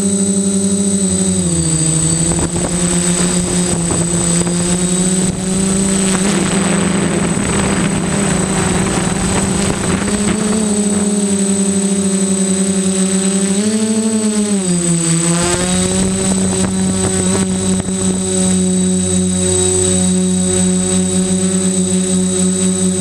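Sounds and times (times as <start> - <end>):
drone propellers whirring: 0.0 - 23.0
rough rushing noise: 1.4 - 21.6.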